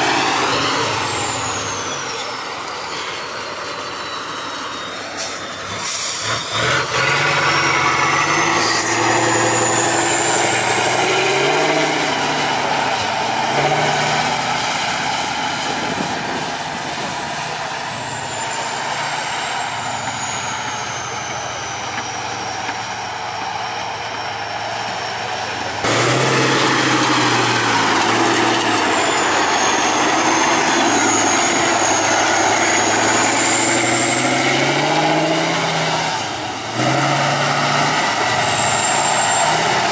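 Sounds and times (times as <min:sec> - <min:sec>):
truck diesel engine revving: 0:00.0 - 0:39.9.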